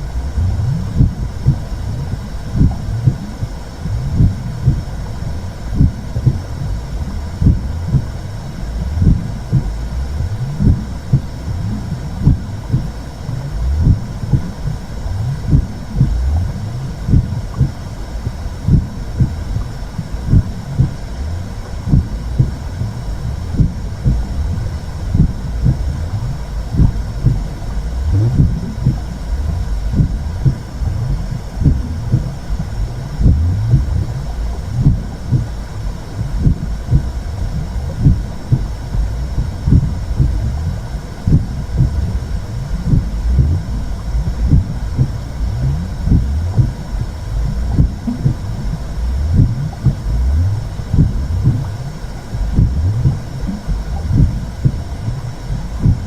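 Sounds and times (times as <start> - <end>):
low rumbling whoosh: 0.0 - 56.0
slow heartbeat thumps: 0.0 - 56.0.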